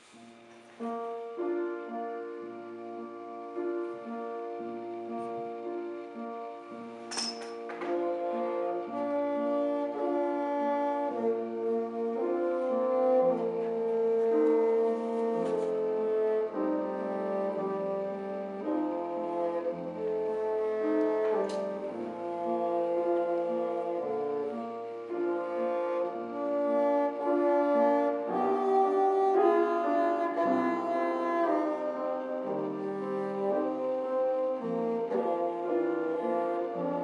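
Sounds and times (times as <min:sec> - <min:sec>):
piano accompaniment: 0:00.0 - 0:37.0
bassoon melody: 0:00.8 - 0:07.1, 0:07.8 - 0:37.0.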